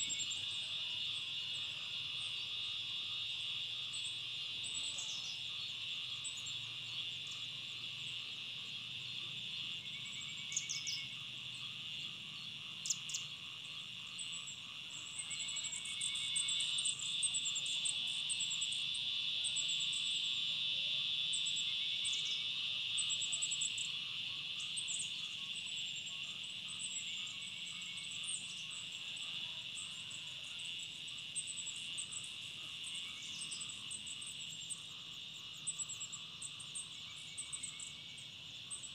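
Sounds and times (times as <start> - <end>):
insect chorus drone: 0.0 - 38.9.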